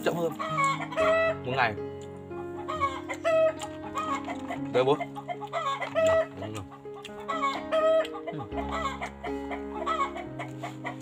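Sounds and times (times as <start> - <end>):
background music low notes: 0.0 - 11.0
chicken clucking: 0.3 - 1.3, 2.6 - 11.0.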